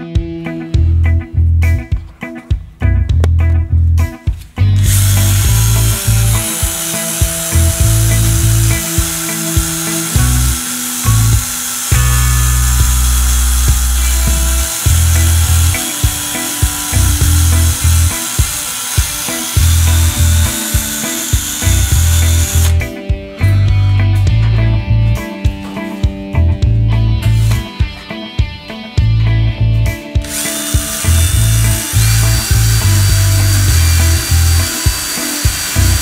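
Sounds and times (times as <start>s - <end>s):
background music with bass: 0.0s - 36.0s.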